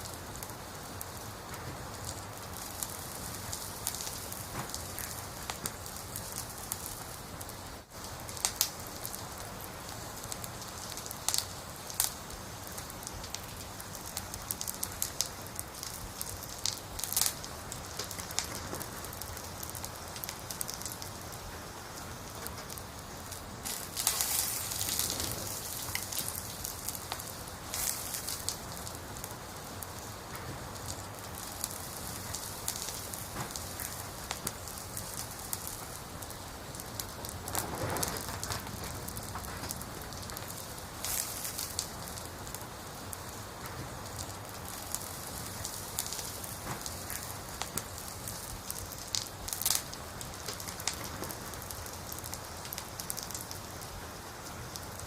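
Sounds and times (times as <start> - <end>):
campfire logs burning: 0.0 - 55.0
fire crackling and popping: 0.0 - 55.0.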